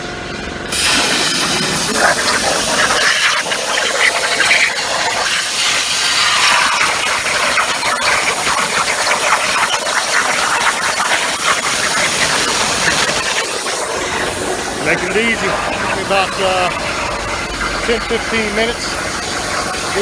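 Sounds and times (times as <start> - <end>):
plasma torch cutting steel: 0.7 - 20.0.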